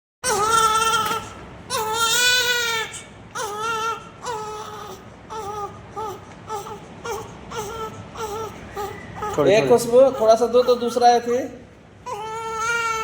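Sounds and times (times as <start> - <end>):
newborn baby crying: 0.2 - 11.3, 12.0 - 13.0.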